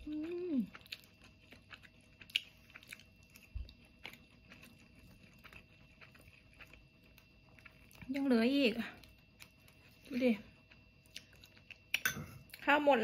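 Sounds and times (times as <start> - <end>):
quiet chewing: 0.0 - 12.7.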